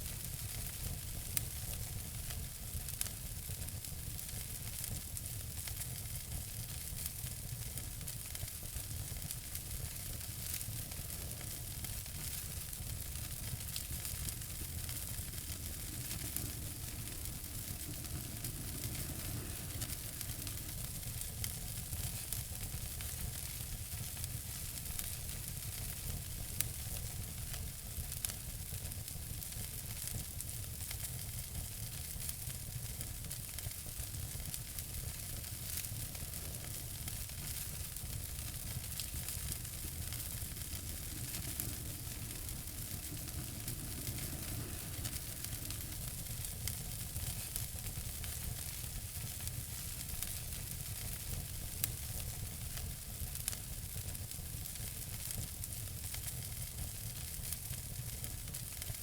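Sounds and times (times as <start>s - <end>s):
fireplace fire crackling: 0.0s - 59.0s
loud fire pops: 2.7s - 59.0s.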